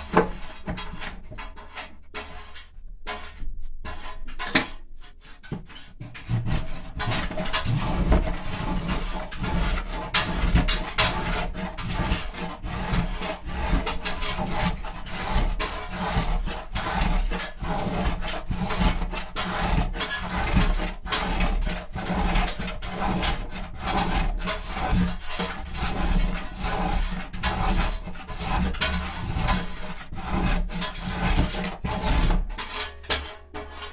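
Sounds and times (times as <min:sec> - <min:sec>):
hand tool rasping wood: 0:00.0 - 0:33.9.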